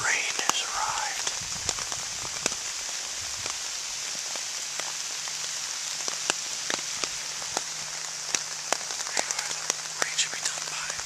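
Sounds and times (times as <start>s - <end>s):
rain hissing: 0.0s - 11.0s
raindrop ticks: 0.0s - 11.0s.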